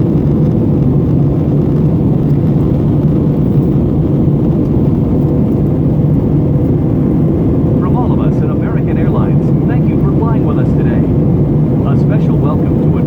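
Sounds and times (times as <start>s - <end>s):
airplane cabin drone: 0.0s - 13.0s
faint steady hum: 0.0s - 13.0s.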